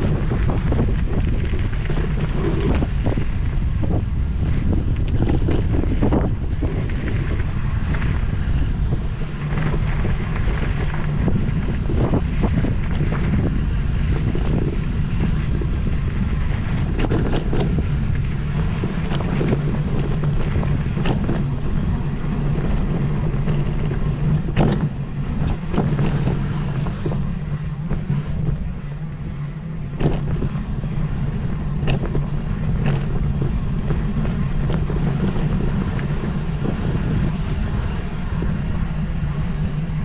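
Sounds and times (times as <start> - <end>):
steady low hum: 0.0 - 40.0
wind buffeting microphone: 0.0 - 40.0.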